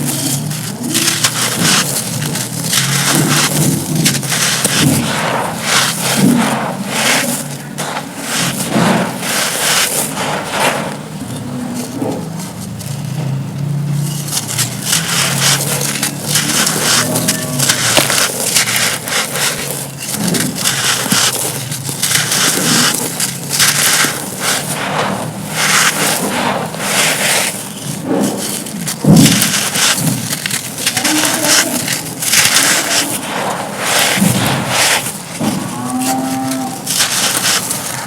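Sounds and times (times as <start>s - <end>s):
dry cones crushed by hand: 0.0s - 38.0s.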